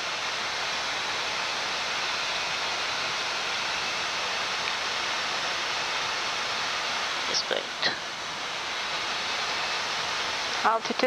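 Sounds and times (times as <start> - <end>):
cockpit airflow and ventilation hiss: 0.0 - 11.0.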